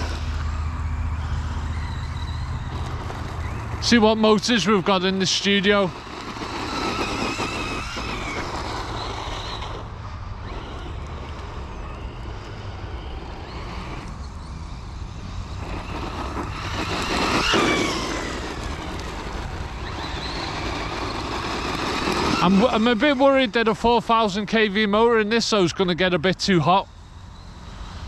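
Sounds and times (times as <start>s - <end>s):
rc truck electric motor whining: 0.0s - 28.0s.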